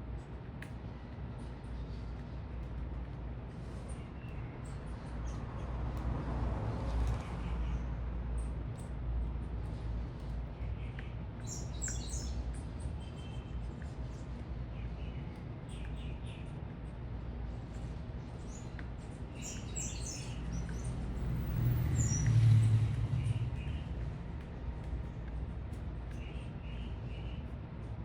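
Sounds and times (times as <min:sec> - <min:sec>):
low city traffic rumble: 0:00.0 - 0:28.0
vehicle rumbling: 0:00.0 - 0:28.0
small birds chirping: 0:00.1 - 0:06.1, 0:06.8 - 0:28.0.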